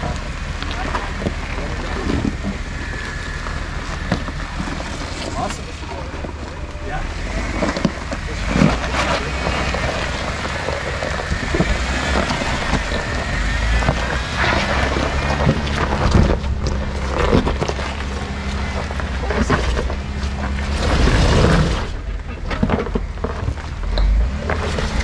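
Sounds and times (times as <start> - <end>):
engine running low: 0.0 - 25.0
tyres crunching on stones: 0.0 - 25.0.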